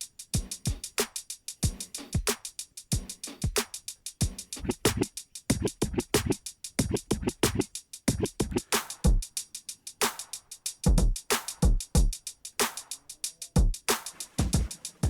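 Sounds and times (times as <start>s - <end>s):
hip hop drum loop: 0.0s - 15.0s.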